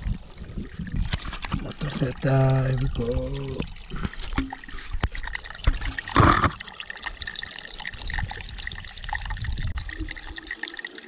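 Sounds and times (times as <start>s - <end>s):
water pouring through filter: 0.0s - 11.0s.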